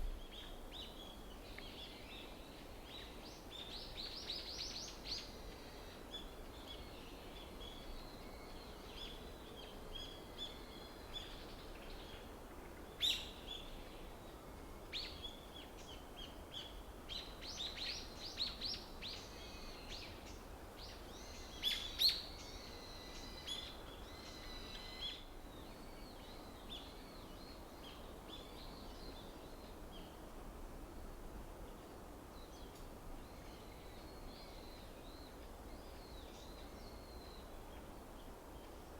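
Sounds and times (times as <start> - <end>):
faint low background noise: 0.0 - 38.9.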